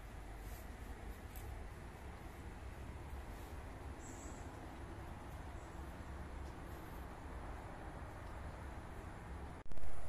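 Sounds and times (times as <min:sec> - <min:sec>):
low rumble with hiss: 0:00.0 - 0:10.0.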